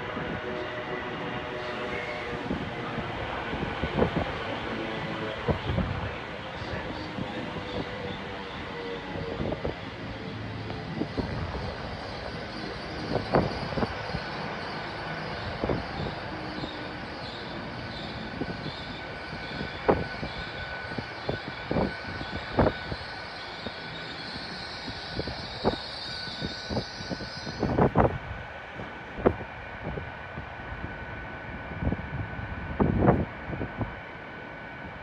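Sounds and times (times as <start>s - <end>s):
steady high hum: 0.0s - 35.0s.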